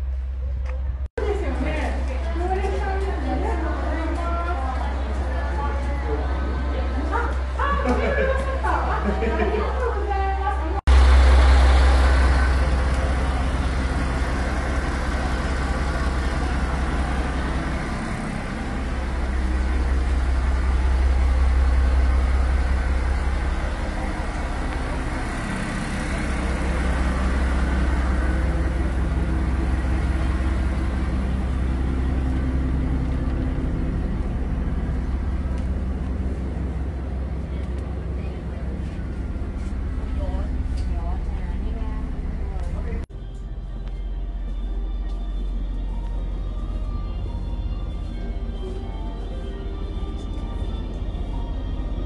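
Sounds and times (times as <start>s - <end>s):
railcar engine rumble: 0.0s - 52.0s.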